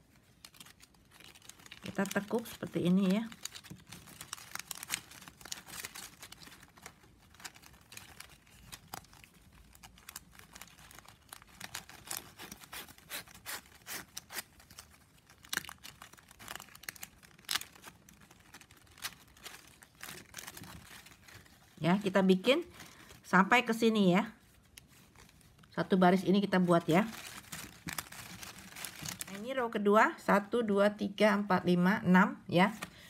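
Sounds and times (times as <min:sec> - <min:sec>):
plastic strapping crackling: 0:00.0 - 0:23.8, 0:24.4 - 0:29.5.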